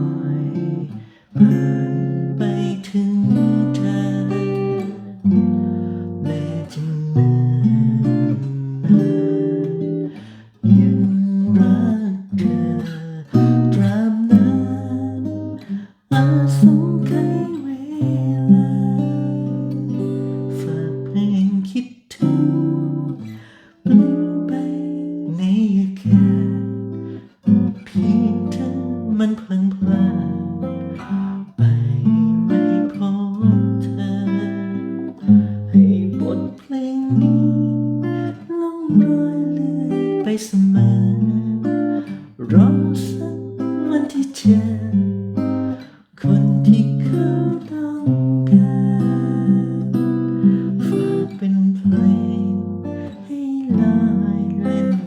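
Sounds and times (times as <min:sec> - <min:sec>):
acoustic guitar chords and melody: 0:00.0 - 0:55.0.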